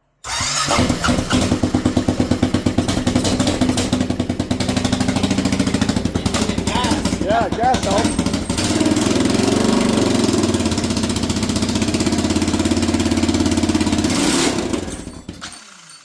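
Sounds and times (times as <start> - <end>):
atv engine running loud: 0.3 - 15.6.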